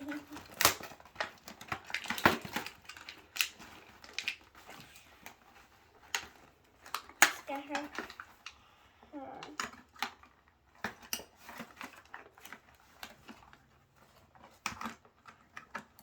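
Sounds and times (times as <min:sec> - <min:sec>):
plastic and cardboard packaging crinkling: 0:00.0 - 0:16.0.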